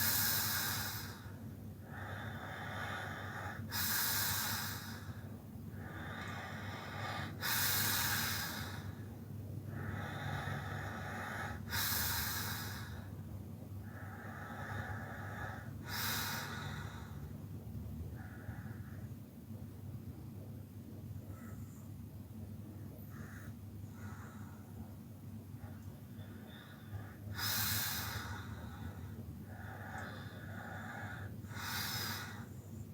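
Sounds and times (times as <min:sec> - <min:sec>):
quiet breathing: 0:00.0 - 0:19.3, 0:22.8 - 0:32.9.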